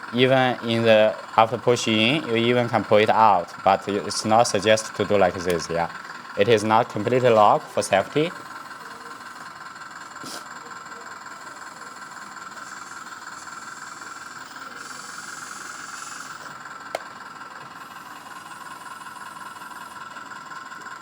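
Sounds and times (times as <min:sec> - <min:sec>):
hydraulic hiss: 0:00.0 - 0:20.8
toy excavator whining: 0:00.0 - 0:21.0.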